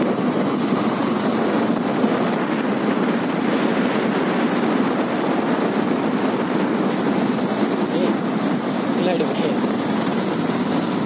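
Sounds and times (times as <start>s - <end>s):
motorcycle road noise: 0.0s - 11.0s
wind rushing: 0.0s - 11.0s.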